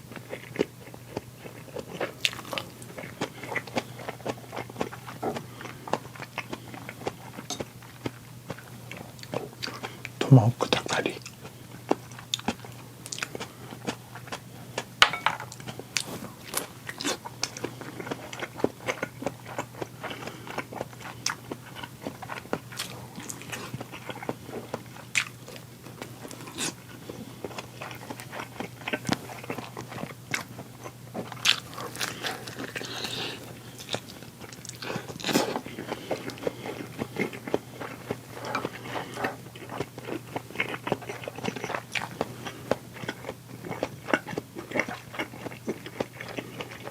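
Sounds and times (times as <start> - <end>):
biting and chewing crunches: 0.0 - 14.9, 15.5 - 46.9
faint low hum: 0.0 - 46.9.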